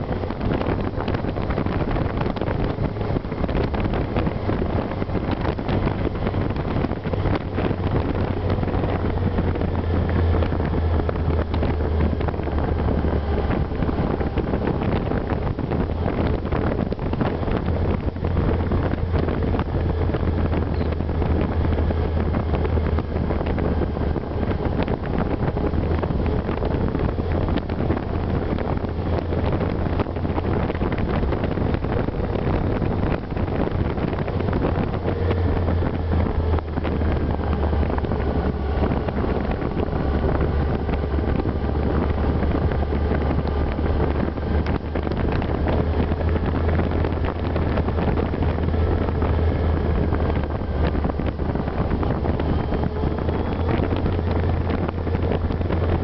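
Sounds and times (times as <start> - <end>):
motorcycle engine cruising: 0.0 - 56.0
wind buffeting microphone: 0.0 - 56.0.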